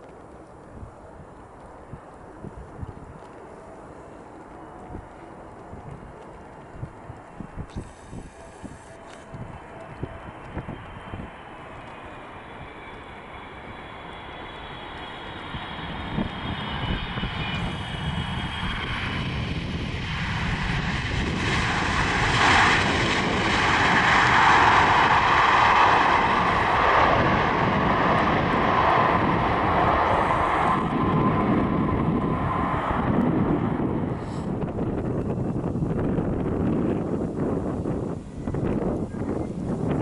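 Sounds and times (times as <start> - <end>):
jet engines whine and rumble: 0.0 - 40.0.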